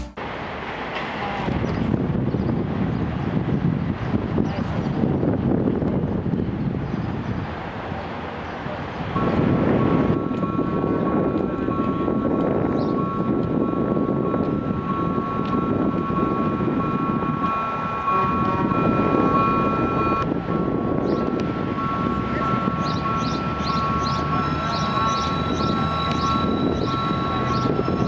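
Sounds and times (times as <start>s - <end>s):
tram wheels rumbling: 0.0s - 28.0s.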